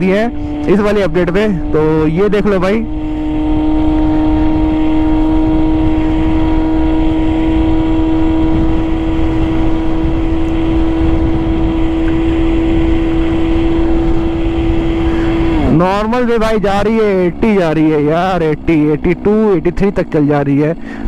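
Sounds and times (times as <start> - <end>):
wind rumble on microphone: 0.0 - 20.0
electric scooter drive hum: 0.0 - 21.0.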